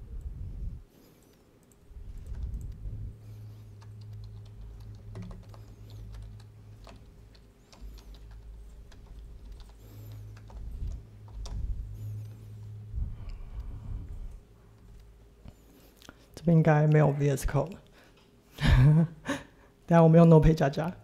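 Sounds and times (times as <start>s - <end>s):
low hum: 0.0s - 19.4s.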